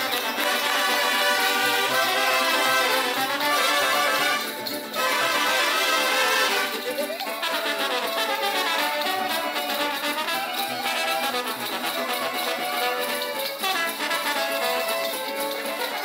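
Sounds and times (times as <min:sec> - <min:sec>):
brass band playing dance tune: 0:00.0 - 0:16.0.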